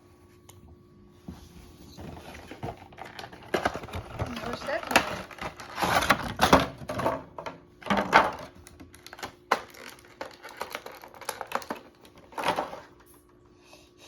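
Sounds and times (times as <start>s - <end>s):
plastic and cardboard rustling: 1.3s - 13.2s.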